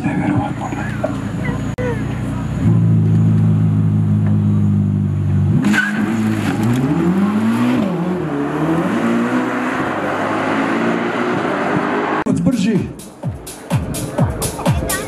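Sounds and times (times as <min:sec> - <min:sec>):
car engine revving: 0:00.1 - 0:12.3.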